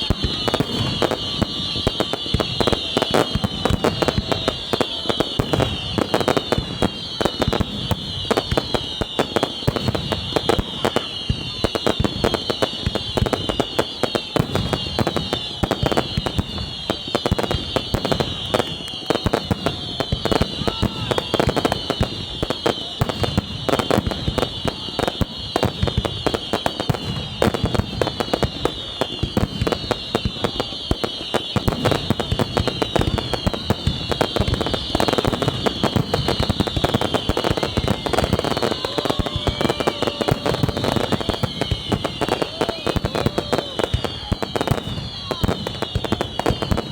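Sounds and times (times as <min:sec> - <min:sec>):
fireworks bangs and crackles: 0:00.0 - 0:46.9
high falling fireworks whistles: 0:00.0 - 0:46.9.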